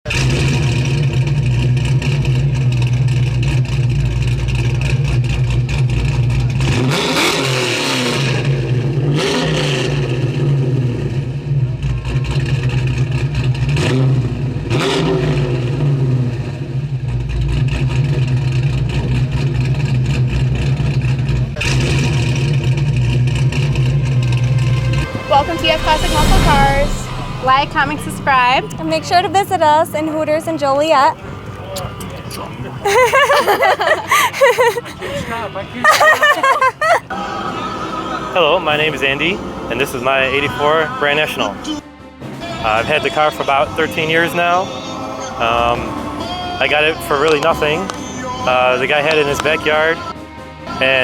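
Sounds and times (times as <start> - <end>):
car engine idling and revving: 0.1 - 42.7, 43.8 - 49.8.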